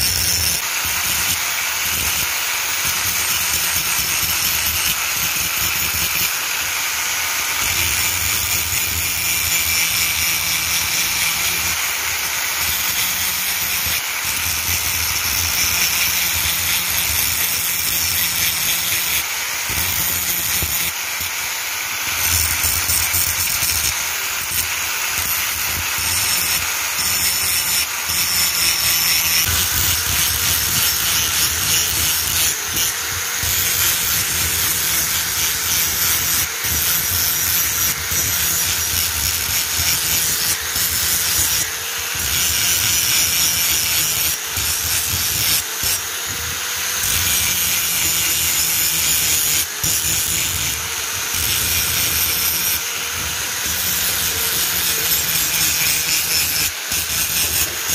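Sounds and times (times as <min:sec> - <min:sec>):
angle grinder grinding steel: 0:00.0 - 0:57.9.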